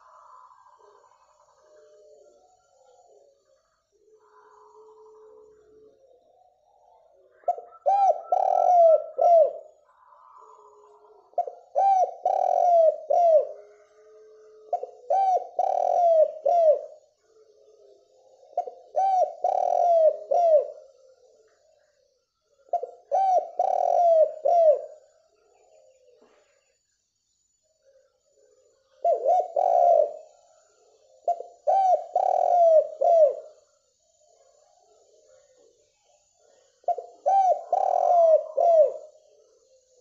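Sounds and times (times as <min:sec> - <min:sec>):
dove cooing: 0:00.0 - 0:21.9, 0:22.5 - 0:26.5, 0:27.8 - 0:40.0.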